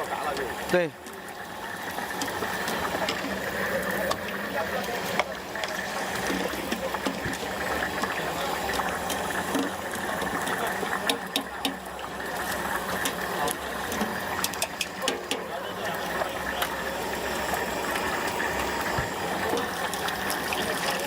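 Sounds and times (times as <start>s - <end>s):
tofu deep-frying in hot oil: 0.0s - 21.0s
steady hum: 1.4s - 21.0s.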